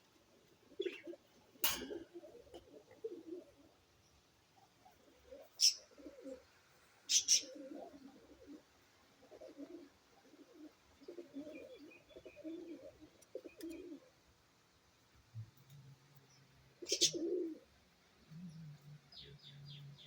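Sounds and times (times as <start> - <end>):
pigeons cooing: 0.2 - 3.9, 4.5 - 14.2, 16.8 - 20.0.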